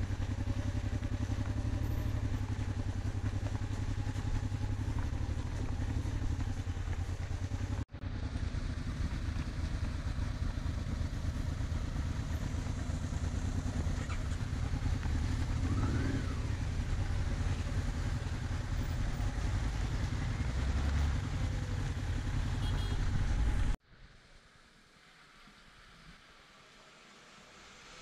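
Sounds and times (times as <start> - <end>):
motorcycle engine running: 0.0 - 23.8.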